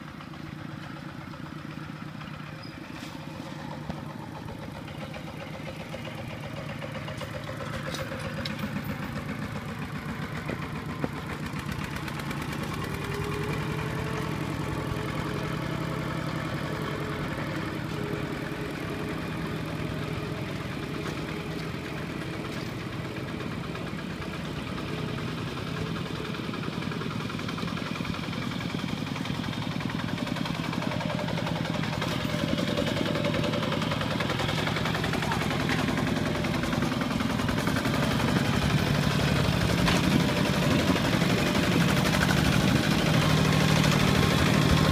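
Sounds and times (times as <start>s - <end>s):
diesel tractor engine chugging: 0.0s - 44.9s.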